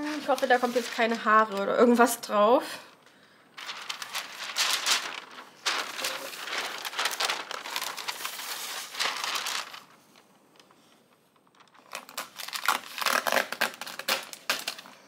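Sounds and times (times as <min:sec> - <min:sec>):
cover paper crinkling and rustling: 0:00.0 - 0:02.1, 0:03.6 - 0:15.0.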